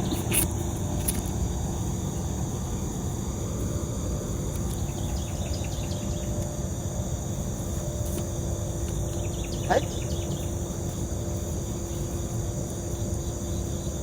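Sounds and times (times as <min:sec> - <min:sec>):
crickets trilling: 0:00.0 - 0:14.0
faint steady hum: 0:00.0 - 0:14.0.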